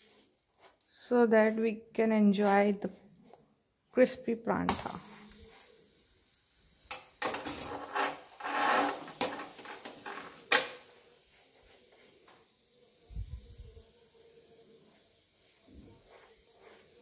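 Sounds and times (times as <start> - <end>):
flatbread sizzling on a hot pan: 0.0 - 17.0.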